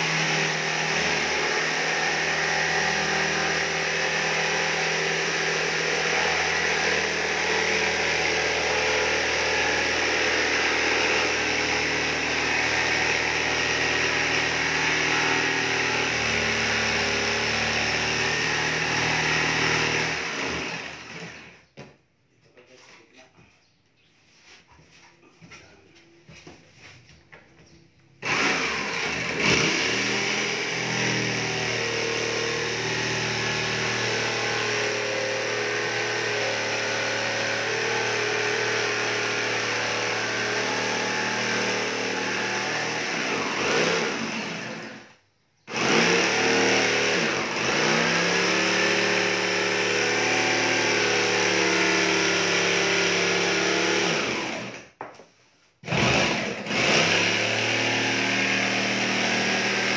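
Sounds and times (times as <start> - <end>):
jigsaw cutting plywood: 0.0 - 21.6, 28.2 - 55.0, 55.8 - 59.9.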